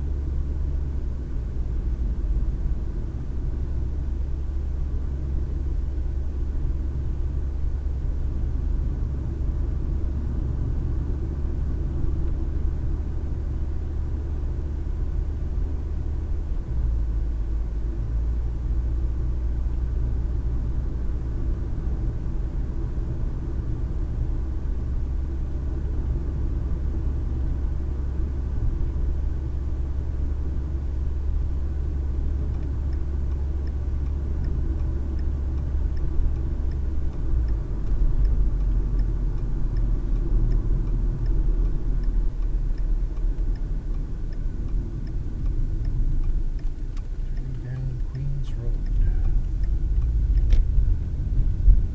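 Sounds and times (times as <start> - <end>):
car engine and tyre rumble: 0.0 - 51.9.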